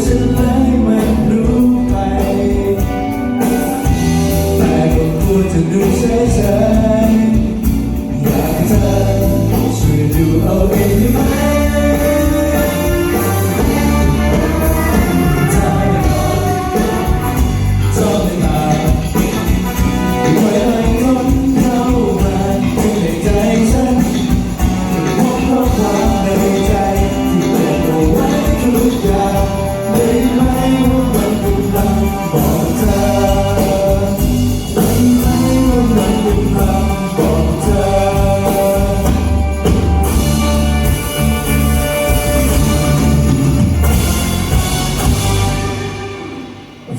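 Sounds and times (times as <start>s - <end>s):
person singing: 0.0s - 43.3s
pop backing track with bass and drums: 0.0s - 46.9s.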